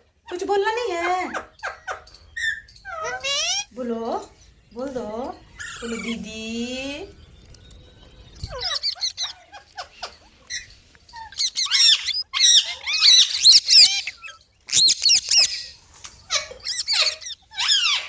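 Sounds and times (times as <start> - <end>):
parakeets screeching: 0.2 - 4.3, 5.0 - 18.0.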